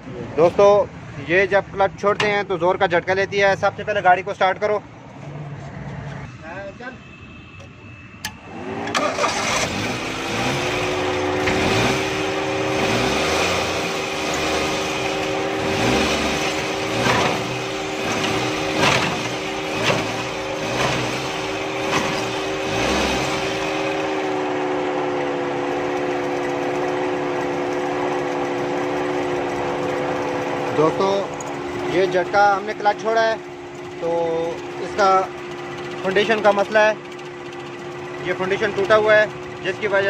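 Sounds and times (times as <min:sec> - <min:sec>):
engine starting and running: 0:07.5 - 0:40.0.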